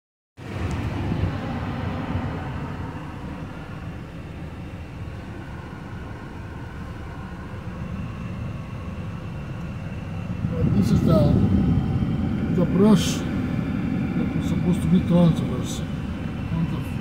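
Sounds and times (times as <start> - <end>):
truck engine low rumble: 0.4 - 17.0.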